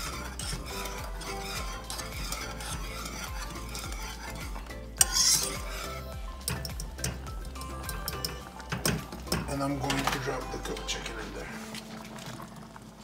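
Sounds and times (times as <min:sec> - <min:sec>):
whisk scraping metal saucepan: 0:00.0 - 0:11.8.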